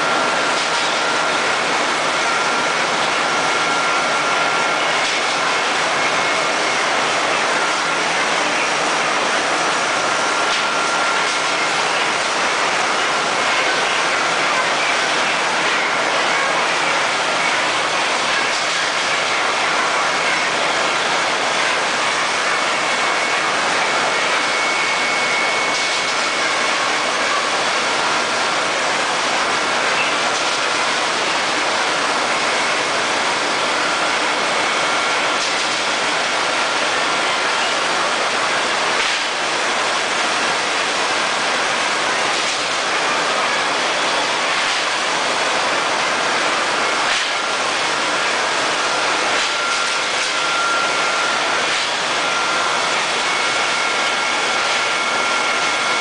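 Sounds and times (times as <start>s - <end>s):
washing machine rushing noise: 0.0s - 56.0s.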